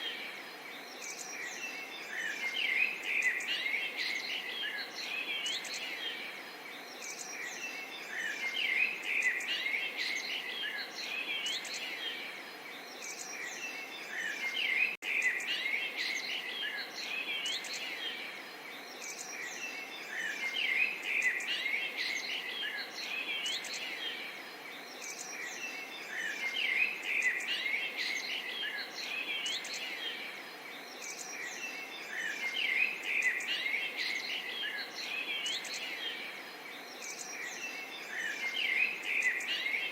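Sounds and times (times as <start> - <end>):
small birds chirping and singing: 0.0 - 39.9
steady background hiss: 0.0 - 39.9.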